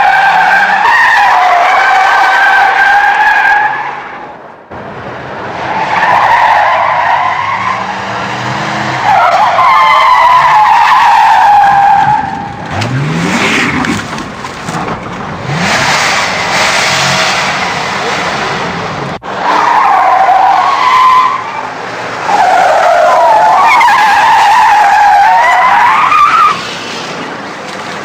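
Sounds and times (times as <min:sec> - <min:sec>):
car tyres screeching: 0:00.0 - 0:28.0.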